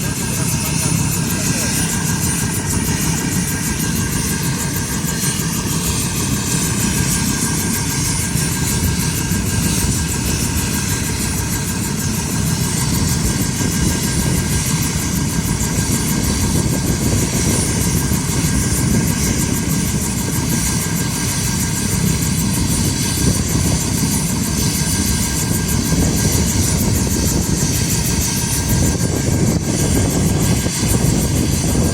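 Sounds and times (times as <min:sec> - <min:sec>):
helicopter running: 0:00.0 - 0:31.9.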